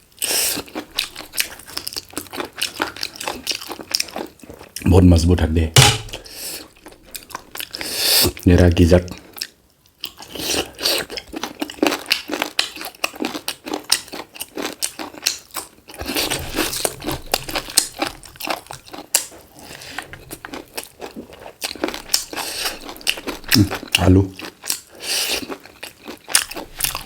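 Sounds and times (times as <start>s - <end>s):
crunchy chewing and biting: 0.2s - 4.8s, 9.1s - 27.0s.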